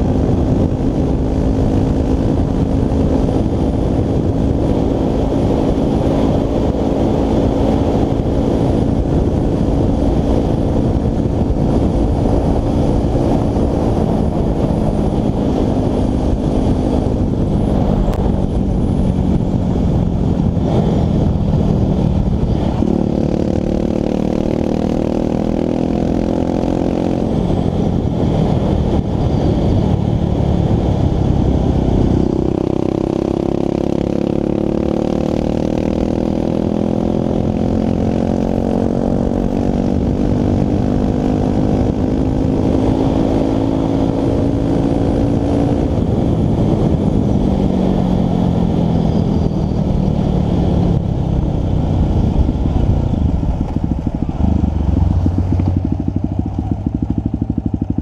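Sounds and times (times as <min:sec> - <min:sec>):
dirt bike engine running: 0:00.0 - 0:58.0
wind rumbling on microphone: 0:00.0 - 0:58.0.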